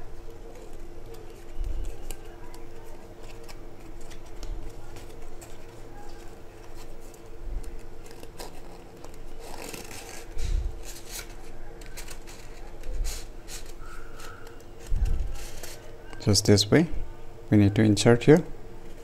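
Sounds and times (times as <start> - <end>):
faint steady hum: 0.0 - 19.0
stiff paper rustling: 0.4 - 16.2.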